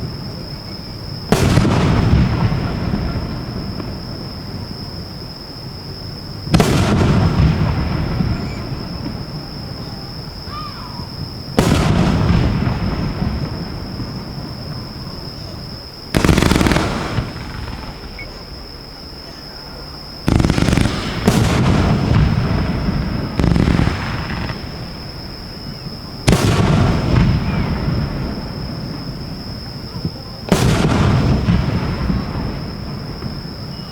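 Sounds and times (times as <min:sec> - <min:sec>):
fireworks booming with echo: 0:00.0 - 0:33.9.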